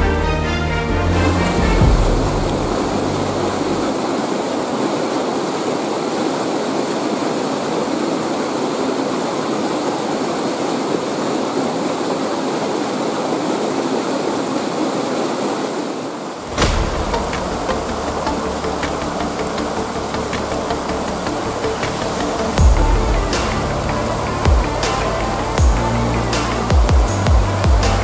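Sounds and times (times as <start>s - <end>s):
waterfall roar: 0.0s - 28.0s.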